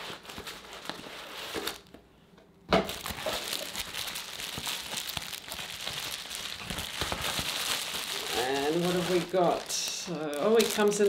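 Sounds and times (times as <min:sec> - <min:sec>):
bubble wrap crinkling: 0:00.0 - 0:01.9, 0:02.9 - 0:11.0.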